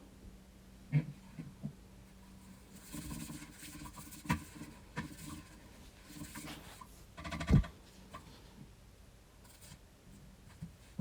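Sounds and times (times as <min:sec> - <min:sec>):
faint rustling and handling noise: 0:00.8 - 0:11.0.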